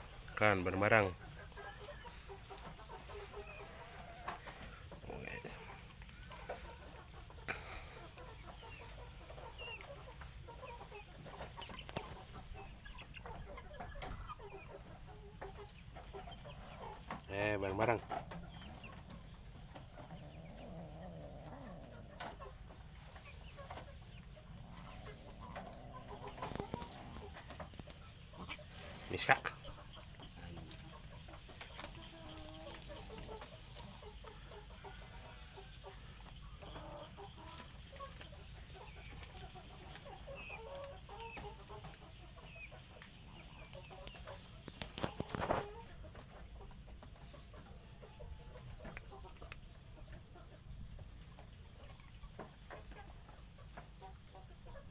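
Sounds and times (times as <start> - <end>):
chickens clucking softly: 0.0 - 54.9.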